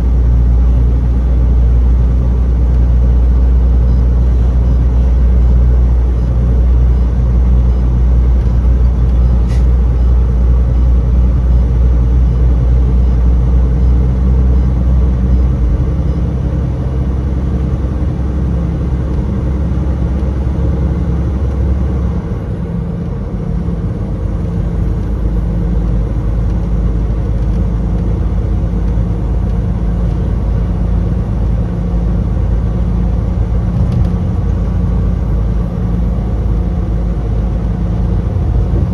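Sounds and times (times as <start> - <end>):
truck engine and road drone: 0.0 - 38.9.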